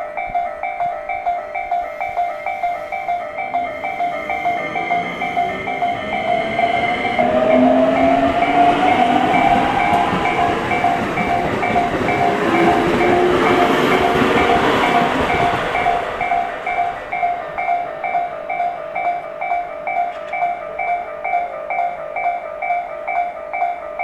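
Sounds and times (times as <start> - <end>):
crossing warning bell ringing: 0.0 - 24.0
electric train passing: 0.0 - 24.0.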